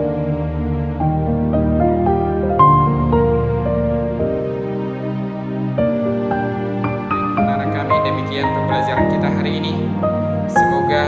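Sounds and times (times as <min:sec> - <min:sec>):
slow soft background music: 0:00.0 - 0:11.0.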